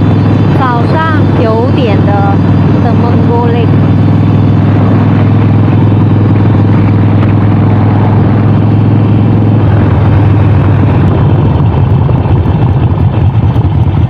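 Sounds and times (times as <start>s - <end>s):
motorcycle engine throbbing: 0.0s - 14.0s.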